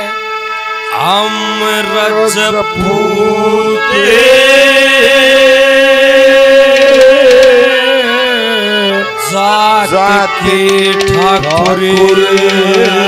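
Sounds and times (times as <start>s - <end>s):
man singing through pa: 0.8s - 13.0s.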